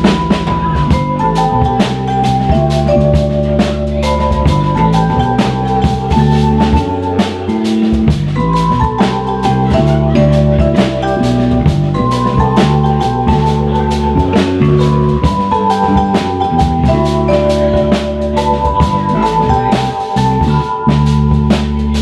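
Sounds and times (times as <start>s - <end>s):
drum kit beat: 0.0s - 22.0s
electric bass line: 0.0s - 22.0s
vibraphone notes ringing: 0.0s - 22.0s.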